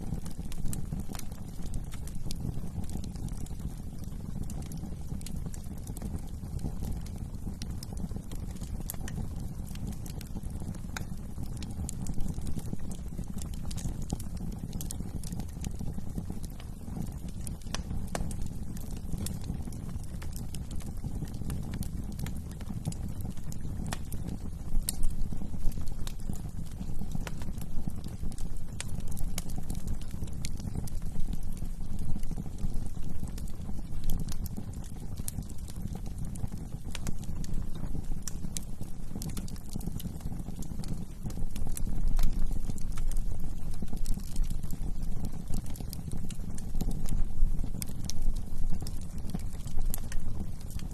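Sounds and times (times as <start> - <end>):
low rumble of burning flames: 0.0 - 50.9
wood fire crackling in fireplace: 0.0 - 50.9.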